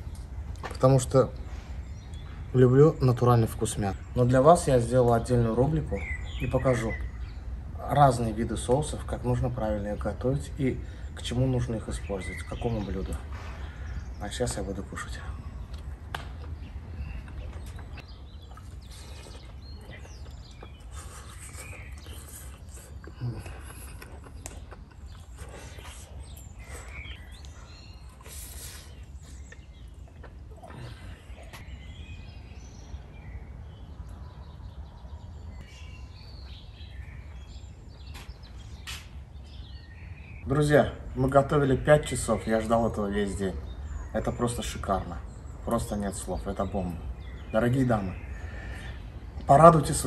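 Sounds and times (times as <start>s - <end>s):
bird chirps: 0.0s - 50.0s.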